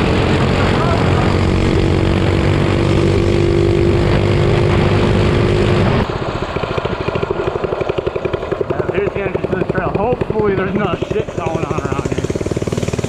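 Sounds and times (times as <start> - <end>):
minibike engine running: 0.0 - 13.0.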